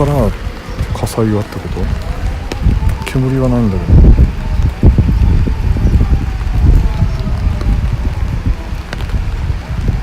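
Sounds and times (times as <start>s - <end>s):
strong wind on microphone: 0.0s - 10.0s.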